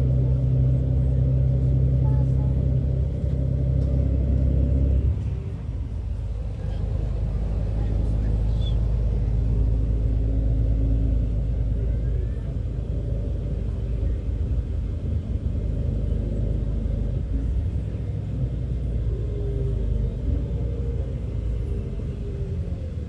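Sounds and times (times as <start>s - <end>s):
coach engine and road rumble: 0.0s - 23.0s.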